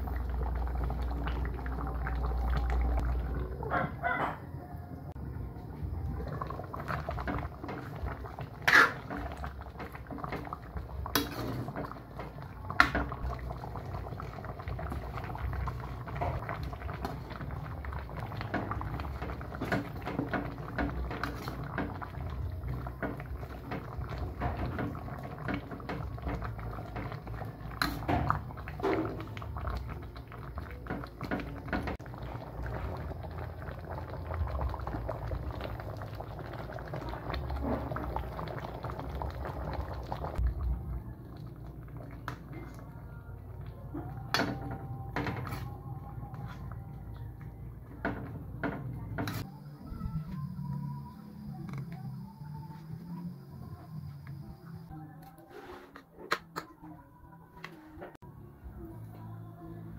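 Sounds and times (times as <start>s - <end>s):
broth bubbling in a pan: 0.0s - 3.6s, 5.6s - 54.9s.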